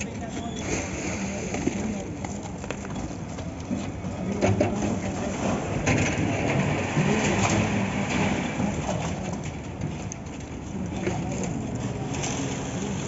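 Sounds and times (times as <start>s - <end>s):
faint voices of workers: 0.0s - 13.0s.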